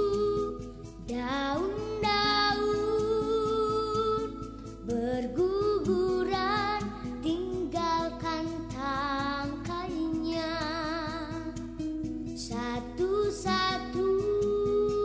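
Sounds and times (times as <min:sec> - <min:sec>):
children's song with instruments: 0:00.0 - 0:15.0.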